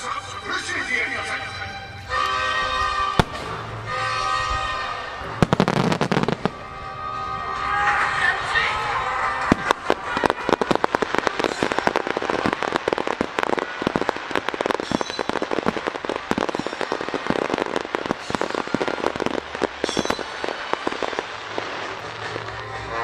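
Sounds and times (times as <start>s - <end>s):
firework crackle: 0.0s - 23.0s
firework shells bursting: 2.0s - 6.8s, 9.2s - 23.0s.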